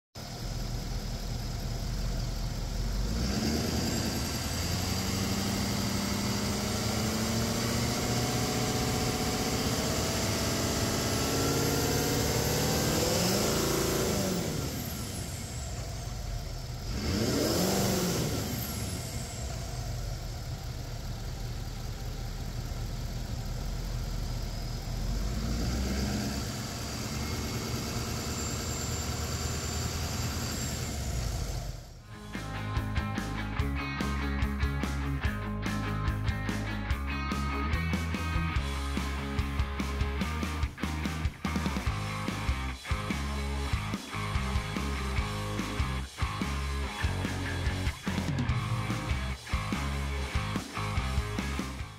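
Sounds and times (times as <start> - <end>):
diesel engine revving: 0.2 - 51.9.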